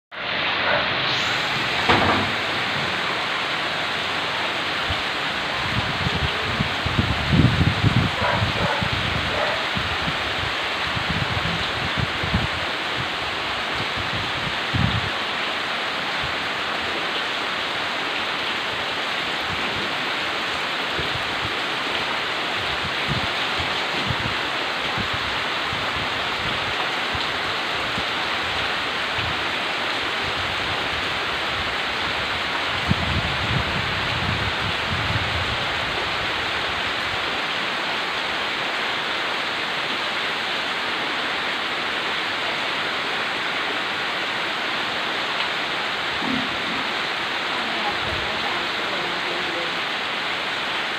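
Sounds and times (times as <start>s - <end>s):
rain falling: 0.1s - 50.9s.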